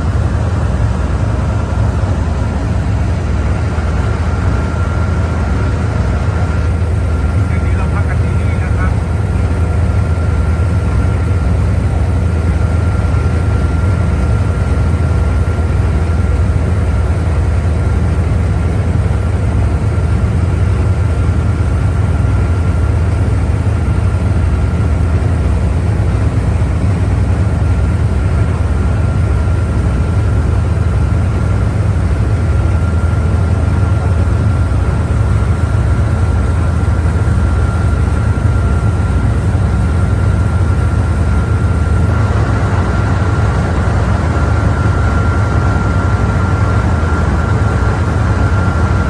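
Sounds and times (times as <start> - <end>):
boat engine rumbling: 0.0 - 49.0
faint steady whine: 0.0 - 49.0.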